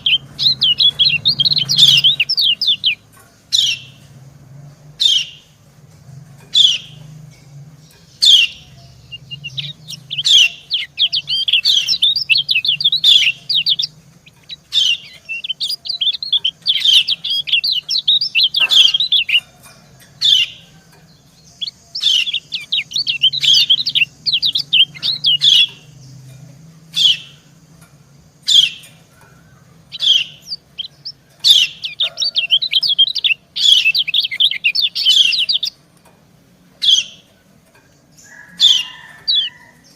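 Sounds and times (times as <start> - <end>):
rapid twittering bird song: 0.0 - 39.9.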